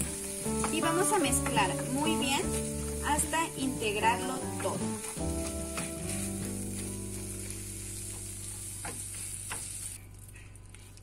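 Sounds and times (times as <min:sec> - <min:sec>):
filling sizzling in a frying pan: 0:00.0 - 0:10.8.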